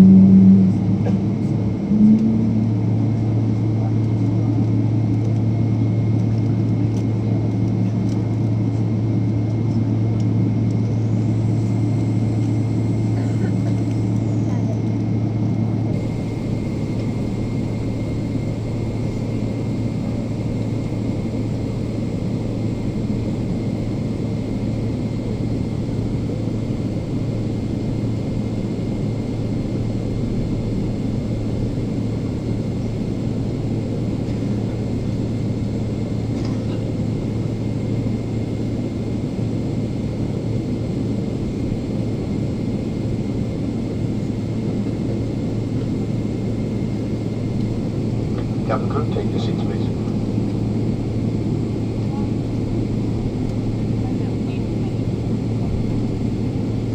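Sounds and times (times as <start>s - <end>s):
airplane cabin drone: 0.0s - 56.9s
faint constant whine: 0.0s - 56.9s.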